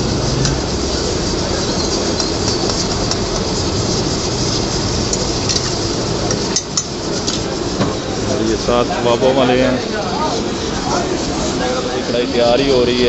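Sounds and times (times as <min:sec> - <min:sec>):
gas flame roaring: 0:00.0 - 0:13.0
utensils clinking and scraping pot: 0:00.0 - 0:13.0.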